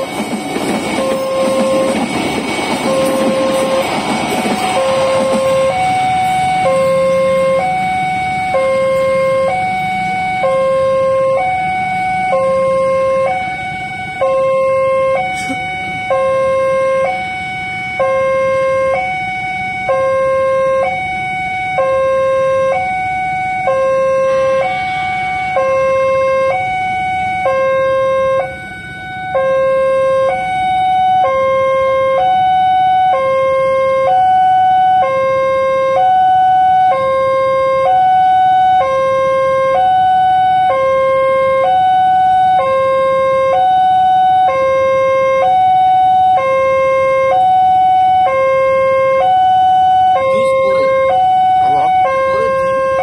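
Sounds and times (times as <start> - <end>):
two-tone level crossing alarm: 0.0 - 53.0.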